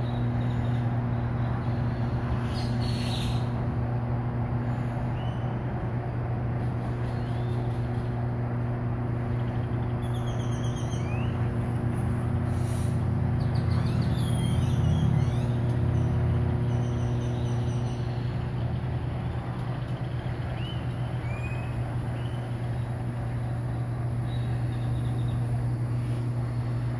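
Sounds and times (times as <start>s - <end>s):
birds chirping: 0.0s - 4.0s, 4.6s - 5.8s, 6.6s - 26.9s
roaster motor humming: 0.0s - 26.9s.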